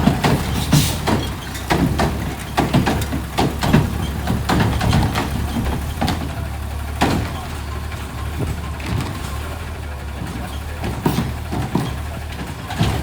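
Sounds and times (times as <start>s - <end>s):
clanks and knocks: 0.0s - 13.0s
garbage truck engine idling: 0.0s - 13.0s.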